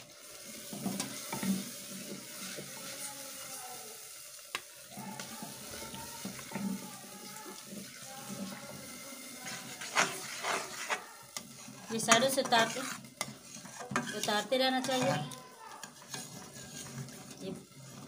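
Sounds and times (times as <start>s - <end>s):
milk mixture sizzling: 0.0s - 18.0s.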